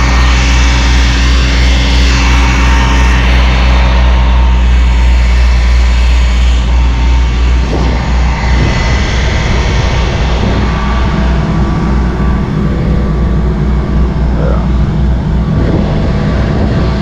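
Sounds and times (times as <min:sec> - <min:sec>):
truck engines and pumps humming: 0:00.0 - 0:17.0.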